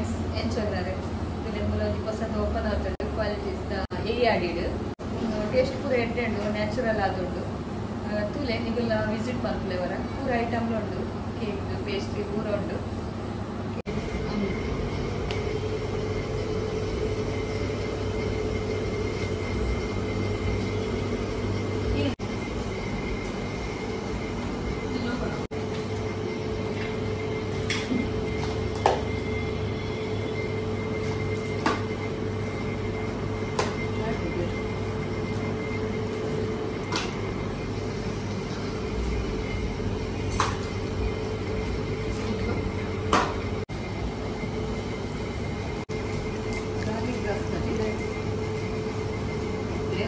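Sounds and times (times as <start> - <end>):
machine hum with low rumble: 0.0 - 50.0.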